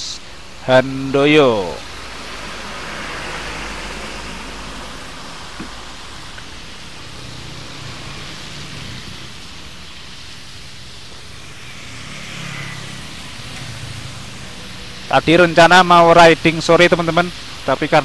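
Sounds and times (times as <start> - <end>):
engine hum of passing traffic: 0.0 - 18.0
tyres hissing on wet road: 0.0 - 18.0
motorcycle approaching: 1.4 - 16.9.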